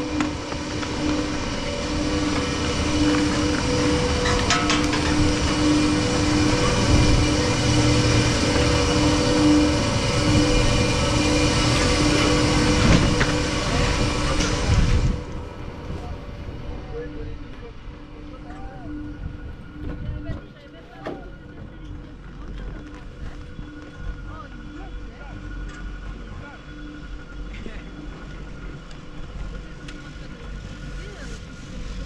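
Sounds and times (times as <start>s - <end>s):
chairlift machinery humming: 0.0s - 32.0s.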